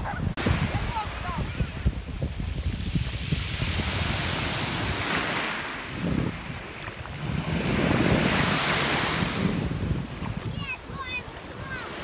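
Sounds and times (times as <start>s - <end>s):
wind buffeting microphone: 0.0s - 12.0s
waves washing over pebbles: 0.3s - 12.0s.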